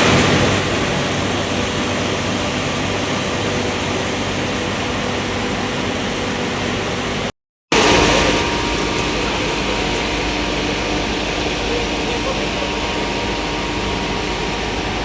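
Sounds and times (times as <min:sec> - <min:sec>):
machinery running: 0:00.0 - 0:15.0.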